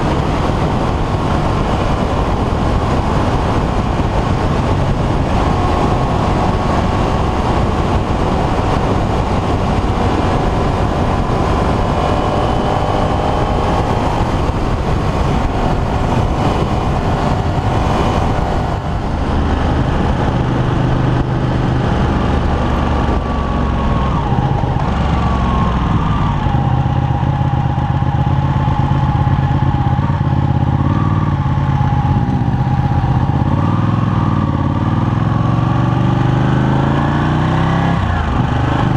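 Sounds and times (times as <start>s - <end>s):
wind and road noise: 0.0s - 38.9s.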